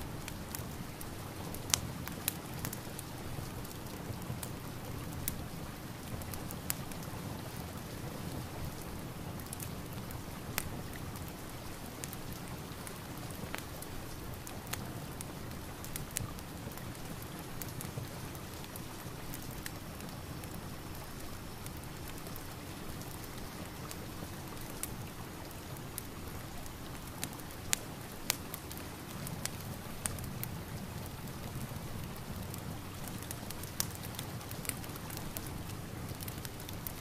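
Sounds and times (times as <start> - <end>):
fireplace fire crackling: 0.0 - 37.0
steady rain: 0.0 - 37.0.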